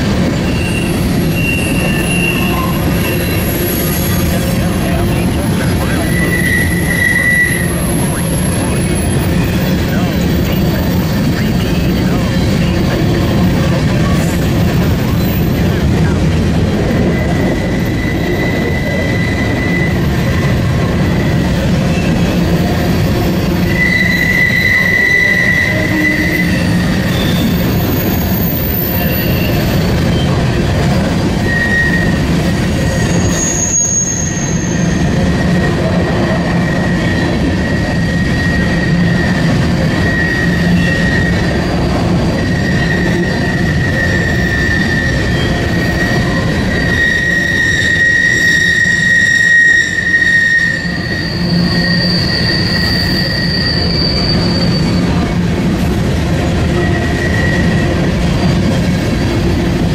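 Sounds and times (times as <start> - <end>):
train wheels rumbling on rail: 0.0 - 59.9
high-pitched wheel squeal: 0.2 - 55.4, 56.4 - 59.9.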